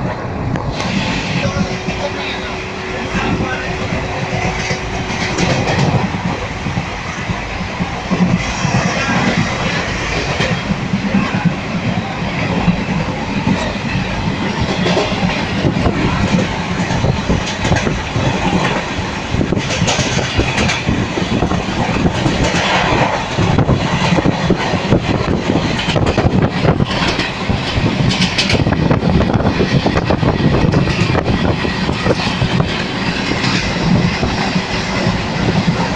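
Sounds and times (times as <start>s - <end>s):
train rumble: 0.0s - 35.9s.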